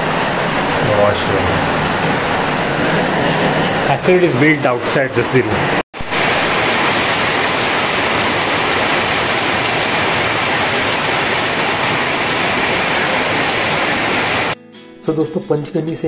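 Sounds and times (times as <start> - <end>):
water rushing: 0.0 - 14.6.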